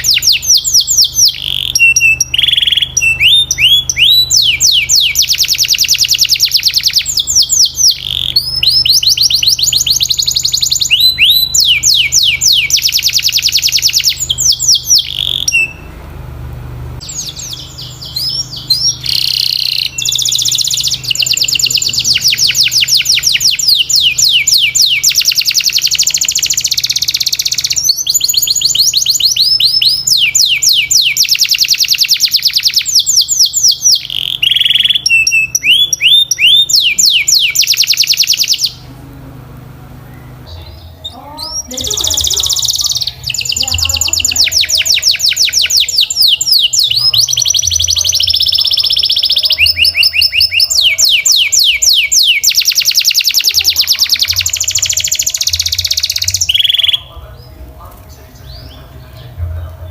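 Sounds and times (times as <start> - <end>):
canary singing trills: 0.0 - 16.0, 17.0 - 59.9.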